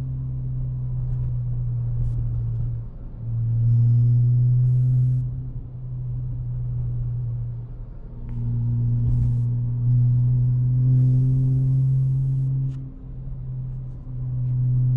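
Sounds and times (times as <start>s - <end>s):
car exhaust droning: 0.0s - 14.9s.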